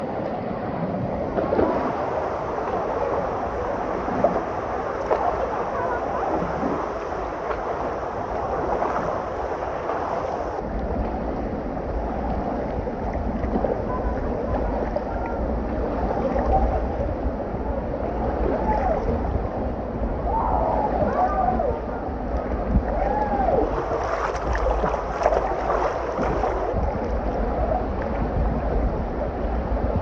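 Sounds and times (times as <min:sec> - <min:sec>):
low rumble: 0:00.0 - 0:30.0
water surging and splashing: 0:00.0 - 0:30.0.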